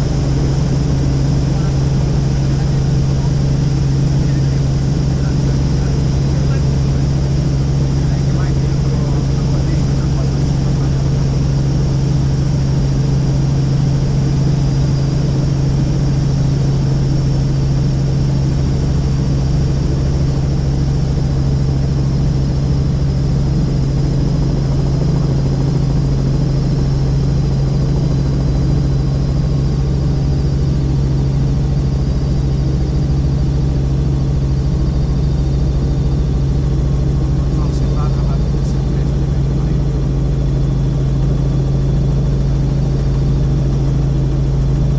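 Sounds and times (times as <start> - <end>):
helicopter drone in cabin: 0.0 - 44.9.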